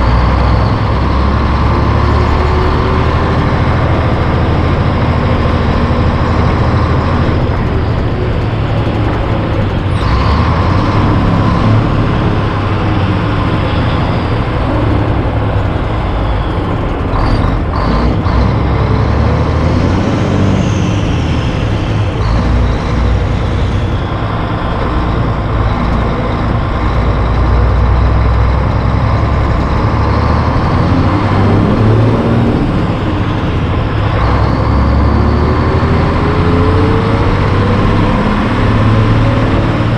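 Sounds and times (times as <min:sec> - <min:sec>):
diesel truck engine droning: 0:00.0 - 0:39.9
road and wind noise: 0:00.0 - 0:39.9.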